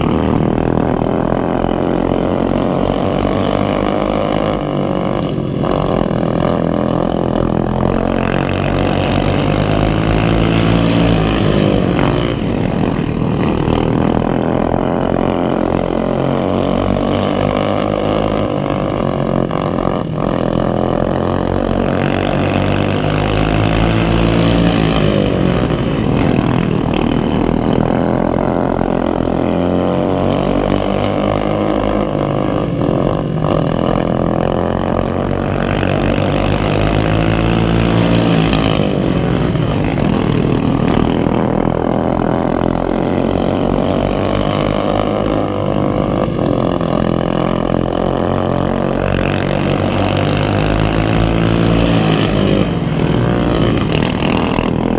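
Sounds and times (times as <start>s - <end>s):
racing lawnmower engine revving: 0.0s - 54.9s.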